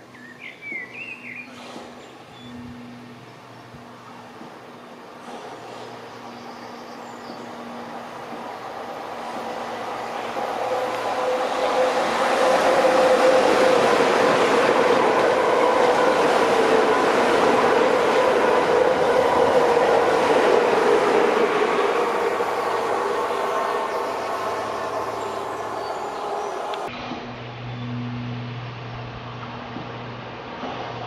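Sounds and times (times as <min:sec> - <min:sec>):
electric train passing: 0:00.9 - 0:31.0.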